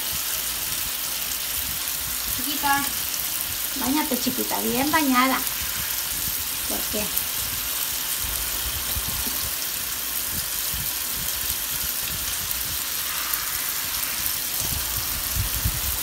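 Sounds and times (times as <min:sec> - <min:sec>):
running water splashing into bathtub: 0:00.0 - 0:16.0.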